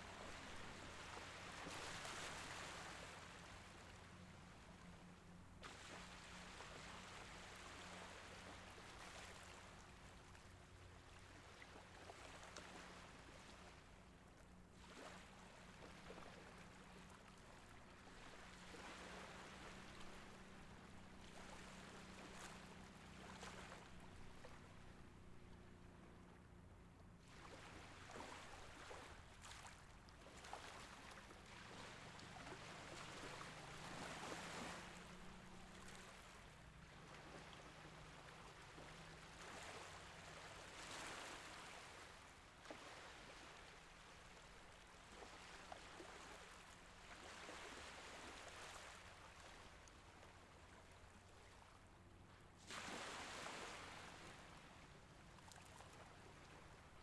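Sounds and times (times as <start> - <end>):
small waves washing in: 0.0 - 26.4, 27.2 - 57.0.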